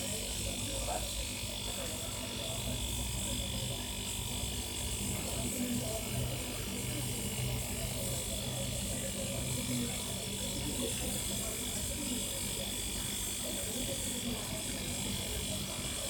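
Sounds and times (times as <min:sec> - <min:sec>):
refrigerator compressor humming: 0:00.0 - 0:16.0.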